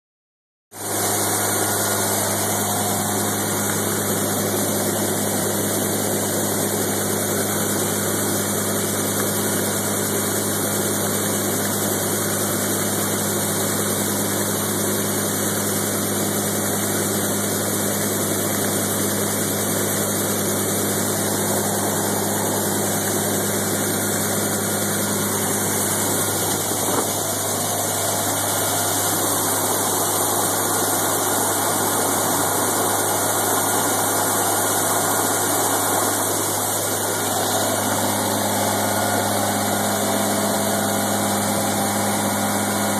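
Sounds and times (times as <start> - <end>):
engine droning: 0.8 - 42.9.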